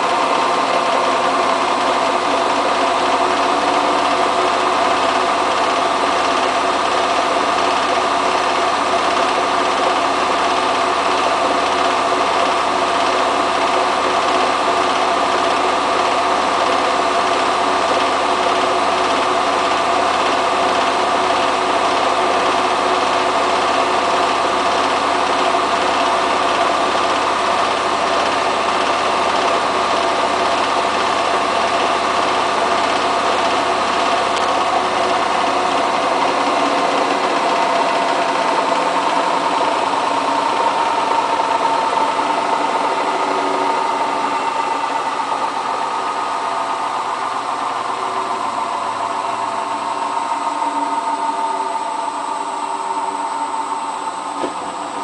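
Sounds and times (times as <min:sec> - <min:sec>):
washing machine fast spin: 0:00.0 - 0:55.0.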